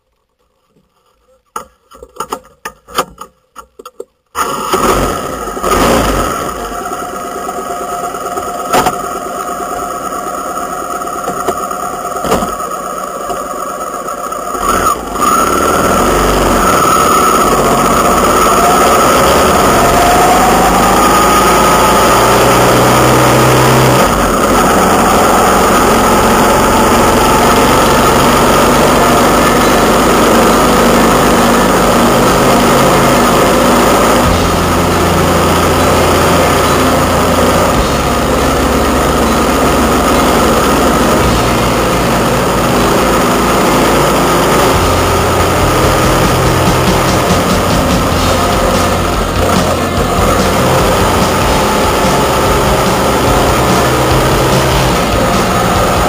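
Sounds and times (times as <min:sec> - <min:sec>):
vehicle engine running: 0:04.4 - 0:56.0.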